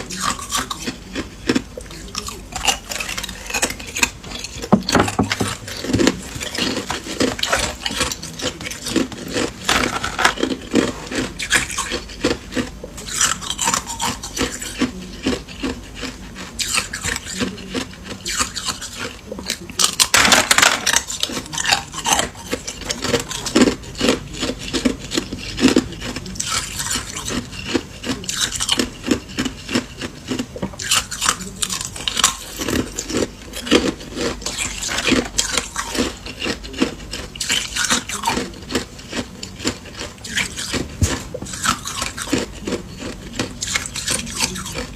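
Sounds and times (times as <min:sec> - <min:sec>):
ice crunching while chewed: 0:00.0 - 0:44.9.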